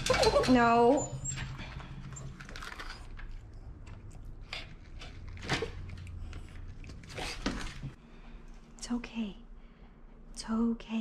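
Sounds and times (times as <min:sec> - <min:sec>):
faint steady hum: 0:01.1 - 0:11.0.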